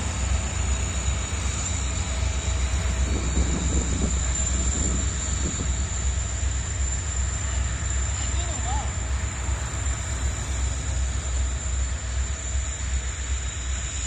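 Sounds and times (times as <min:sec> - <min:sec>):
diesel locomotive engine drone: 0:00.0 - 0:14.0
train wheels rumbling on rails: 0:00.0 - 0:14.0.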